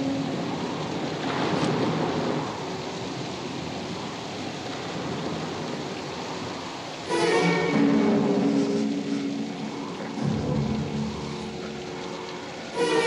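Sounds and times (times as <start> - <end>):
rain and storm noise: 0.0 - 13.0.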